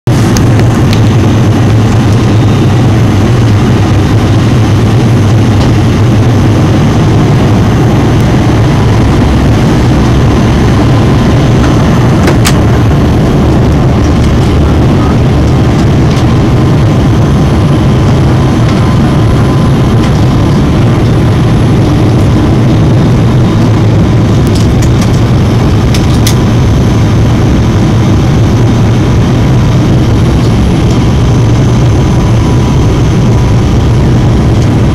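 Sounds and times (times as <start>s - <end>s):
airliner engine rumble: 0.0s - 34.9s
faint steady hum: 0.1s - 34.9s.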